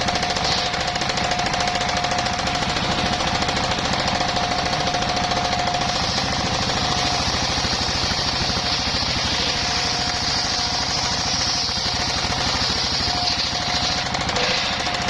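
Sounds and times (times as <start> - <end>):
engine-driven sawmill running: 0.0 - 15.0.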